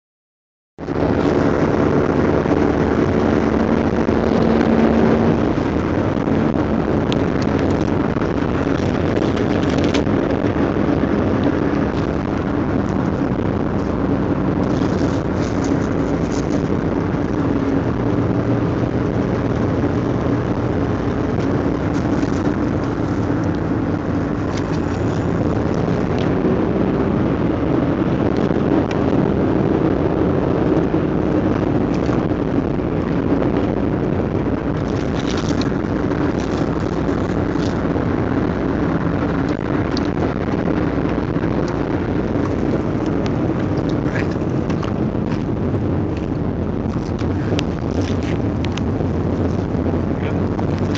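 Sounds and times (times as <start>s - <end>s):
car engine and road rumble: 0.8s - 50.9s.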